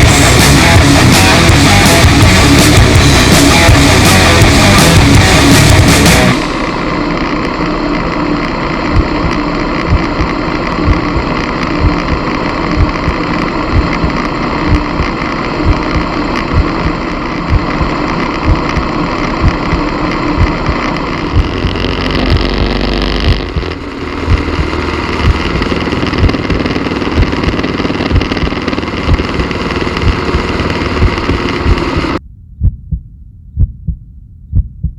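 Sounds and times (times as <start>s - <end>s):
slow heavy thumps: 0.0s - 6.7s, 8.8s - 34.9s
steady rushing noise: 0.0s - 34.9s.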